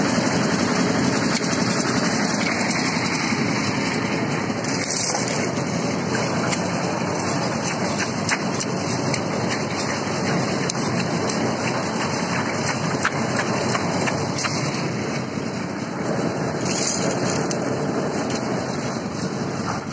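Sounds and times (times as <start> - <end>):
concrete mixer drum churning: 0.0 - 19.9.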